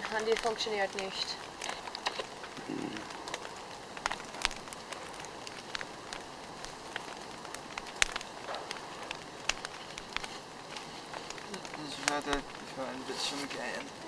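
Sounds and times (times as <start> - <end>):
burning wood popping: 0.0 - 14.0
campfire crackling: 0.0 - 14.0.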